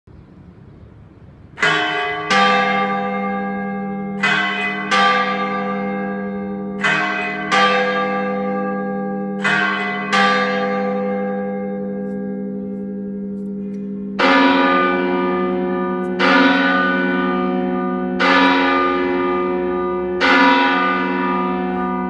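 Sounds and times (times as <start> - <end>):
tower bells striking: 1.6 - 22.0.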